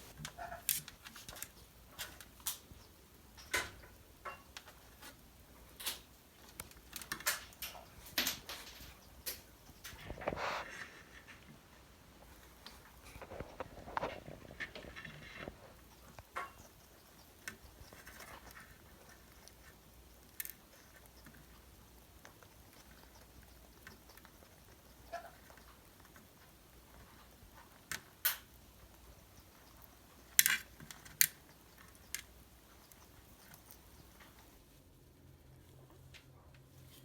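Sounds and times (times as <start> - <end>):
beaks crunching food: 0.0 - 34.8.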